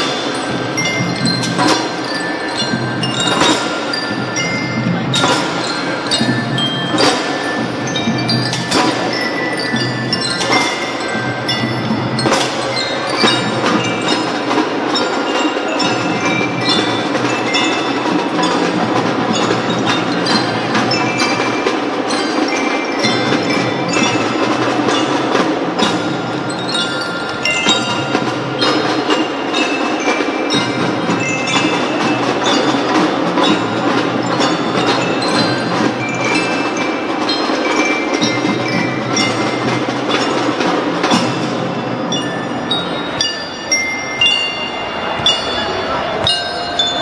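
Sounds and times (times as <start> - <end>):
bell-like mallet notes: 0.0 - 47.0
drum band playing: 0.0 - 47.0.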